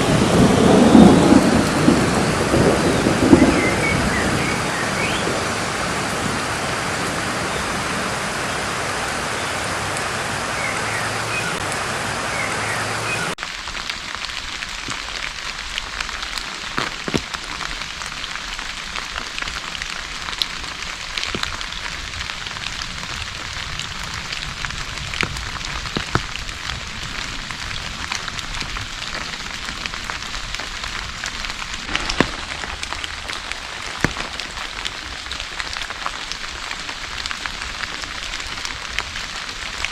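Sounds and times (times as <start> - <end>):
heavy rain: 0.0 - 39.9
raindrops ticking on a surface: 0.0 - 39.9.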